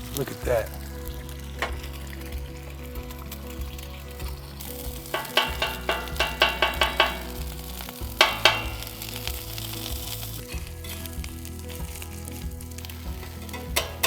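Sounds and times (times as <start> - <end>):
egg sizzling on a griddle: 0.0 - 14.0.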